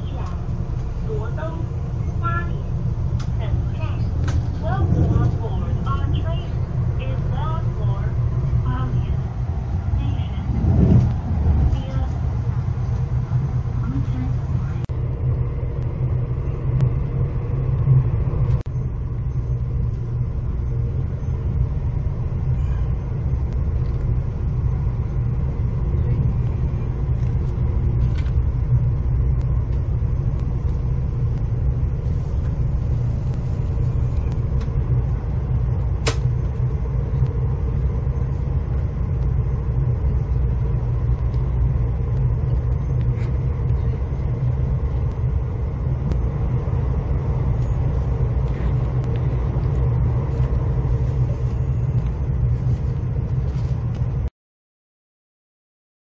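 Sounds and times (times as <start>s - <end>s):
low vehicle rumble: 0.0s - 54.3s.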